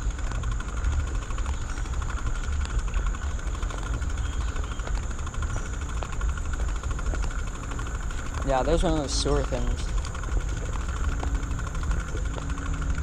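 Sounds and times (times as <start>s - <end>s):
faint ticks: 0.0s - 13.0s
road noise: 0.0s - 13.0s.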